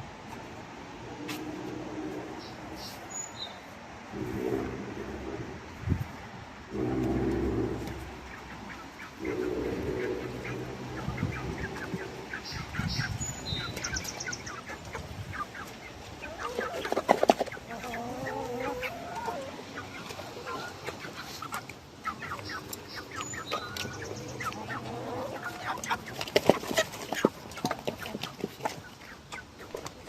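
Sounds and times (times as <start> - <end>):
chickens clucking: 0.3 - 3.1, 4.1 - 30.0.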